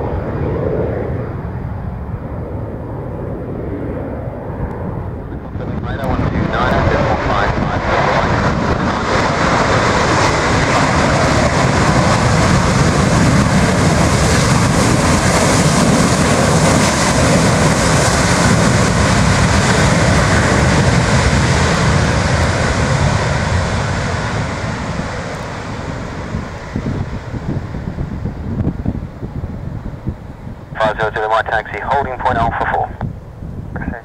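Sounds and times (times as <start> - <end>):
jet airliner passing: 0.0 - 34.0.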